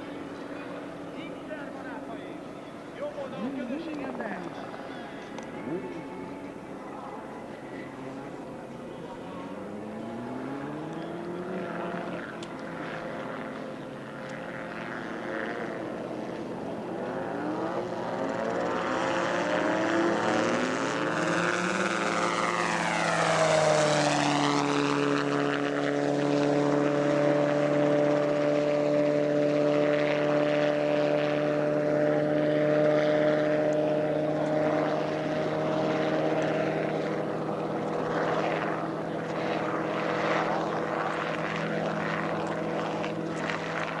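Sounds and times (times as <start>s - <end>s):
helicopter engine and rotor revving: 0.0s - 44.0s.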